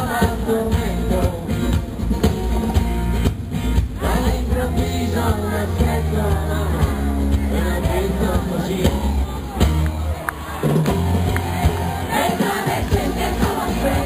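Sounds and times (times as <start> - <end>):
lead vocal singing: 0.0 - 2.4, 3.9 - 9.6, 10.4 - 14.0
live pop band with bass and drums: 0.0 - 14.0.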